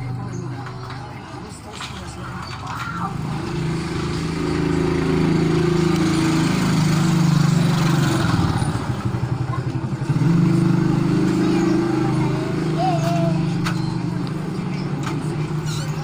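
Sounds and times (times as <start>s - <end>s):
small engine running: 2.4s - 16.0s.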